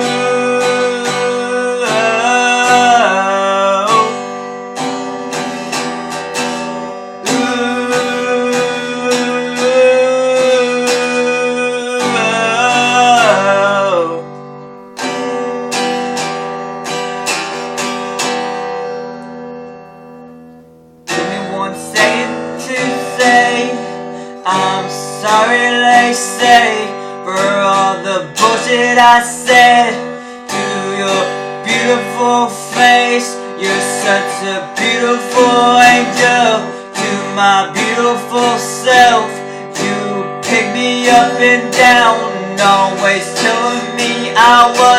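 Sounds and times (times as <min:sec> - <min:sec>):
person singing wordless notes: 0:00.0 - 0:04.5, 0:06.4 - 0:14.6, 0:21.1 - 0:44.9
acoustic guitar strumming: 0:00.0 - 0:44.9.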